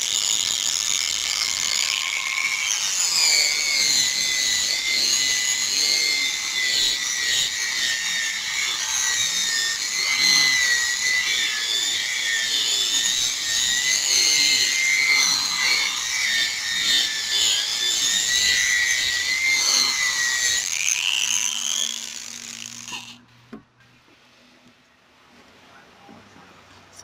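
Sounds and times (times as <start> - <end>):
power sander whining: 0.0 - 23.2.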